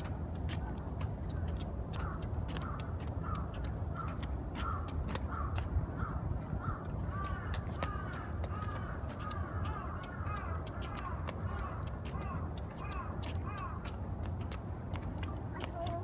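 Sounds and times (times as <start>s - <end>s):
steady low rumble: 0.0s - 16.0s
crows cawing: 1.9s - 15.9s.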